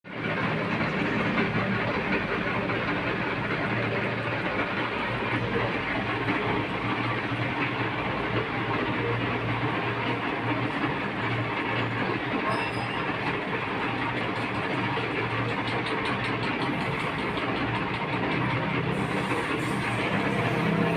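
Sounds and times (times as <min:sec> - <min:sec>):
metal lathe machining: 0:00.1 - 0:20.9.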